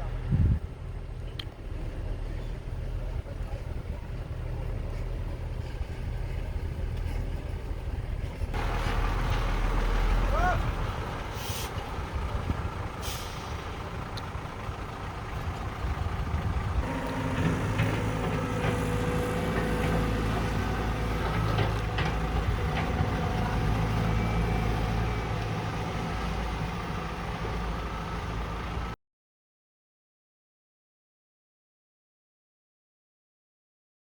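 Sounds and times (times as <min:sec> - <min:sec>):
excavator diesel engine: 0:00.0 - 0:29.0.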